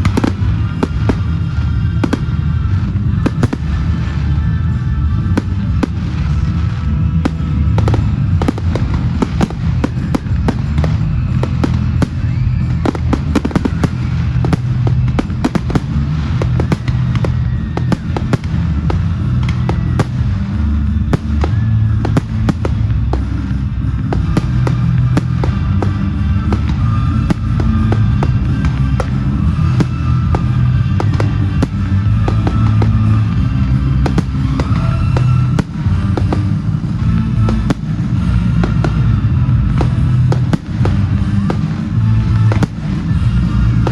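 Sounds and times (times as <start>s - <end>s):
fireworks bangs and crackles: 0.0s - 43.9s
music with heavy bass: 0.0s - 43.9s.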